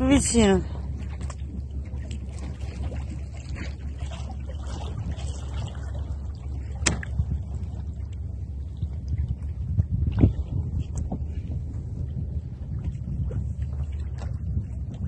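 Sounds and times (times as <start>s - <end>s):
small water splashes: 0.0s - 15.0s
wind buffeting microphone: 0.0s - 15.0s.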